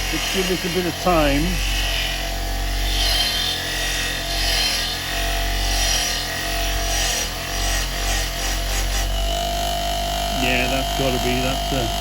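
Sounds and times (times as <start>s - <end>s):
wire brush scrubbing metal spanner: 0.0s - 12.0s.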